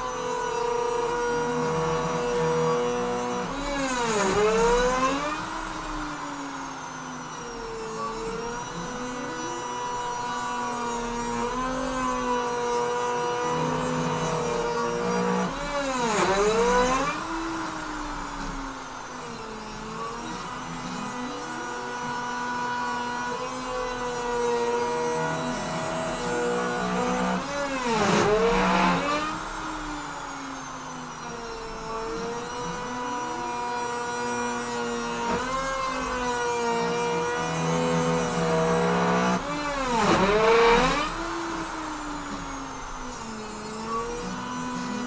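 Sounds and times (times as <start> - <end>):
machine motors humming: 0.0 - 45.0
router spindle whining: 0.0 - 45.0.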